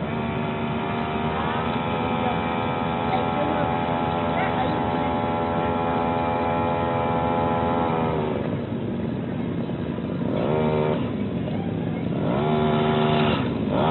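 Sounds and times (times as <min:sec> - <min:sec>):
brush-cutter engine revving: 0:00.0 - 0:08.6, 0:10.2 - 0:11.2, 0:12.2 - 0:13.9.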